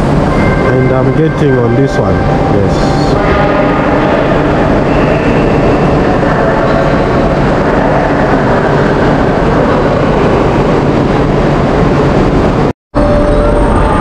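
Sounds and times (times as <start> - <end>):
train rumble and hum: 0.0 - 14.0.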